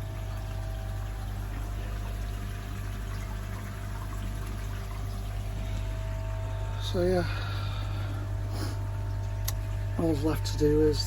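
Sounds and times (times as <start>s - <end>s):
pond pump humming: 0.0s - 11.0s
water pouring and trickling: 0.0s - 11.0s.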